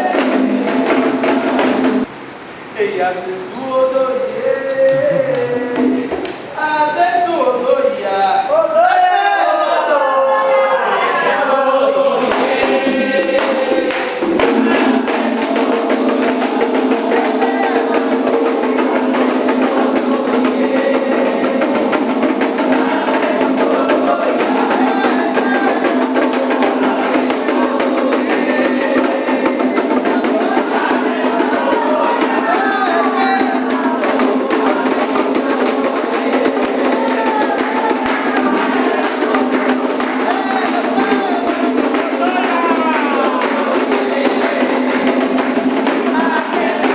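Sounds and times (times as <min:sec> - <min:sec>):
drums beating fast rhythm: 0:00.0 - 0:02.1, 0:04.9 - 0:06.8, 0:10.9 - 0:46.9
struck percussion: 0:00.0 - 0:02.1, 0:04.8 - 0:06.6, 0:12.1 - 0:46.9
voices singing: 0:00.0 - 0:02.1, 0:03.4 - 0:46.9.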